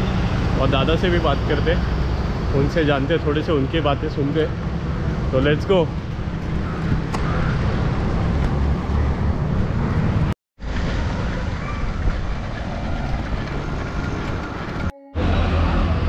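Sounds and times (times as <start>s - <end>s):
road noise rumble: 0.0s - 16.0s.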